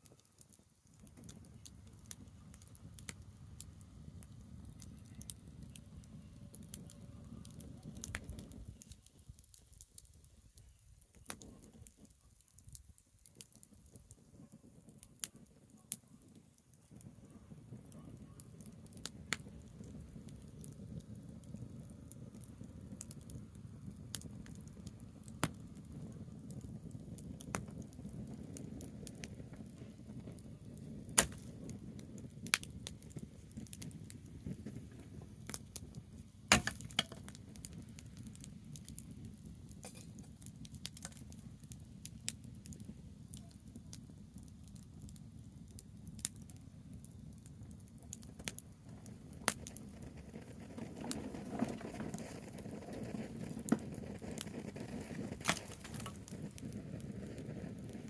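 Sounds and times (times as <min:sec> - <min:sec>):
campfire crackling: 0:00.0 - 0:58.0
sharp pops from fire: 0:00.0 - 0:58.0.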